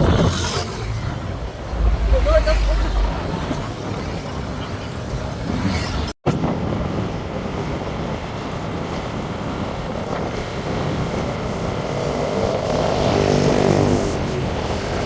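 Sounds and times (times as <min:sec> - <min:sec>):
vehicle road noise: 0:00.0 - 0:15.0
wind rushing over microphone: 0:00.0 - 0:15.0.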